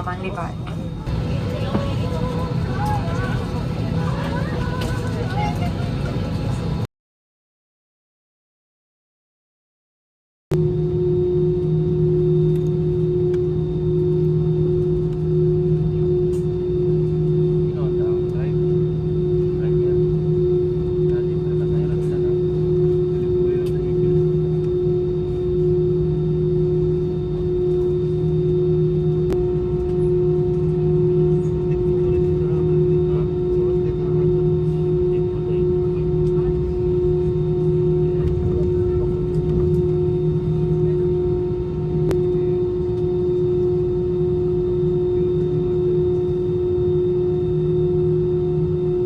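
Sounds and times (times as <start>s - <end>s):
airliner cabin hum: 0.0s - 6.9s, 10.7s - 49.0s.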